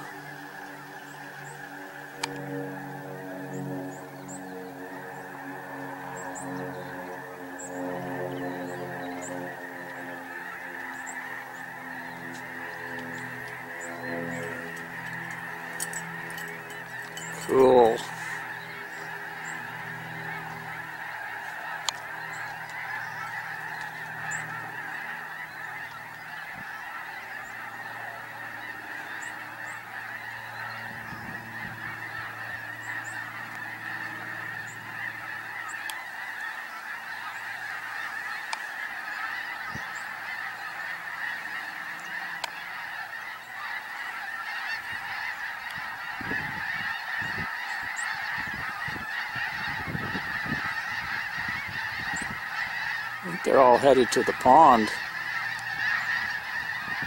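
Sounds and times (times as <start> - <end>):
flock of geese calling: 0.0 - 57.0.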